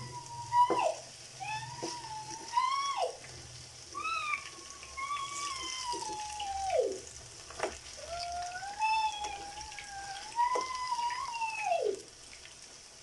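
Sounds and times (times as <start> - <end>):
high wavering cries: 0.0 - 3.2, 3.9 - 7.1, 8.0 - 12.0
food sizzling in hot oil: 0.0 - 13.0.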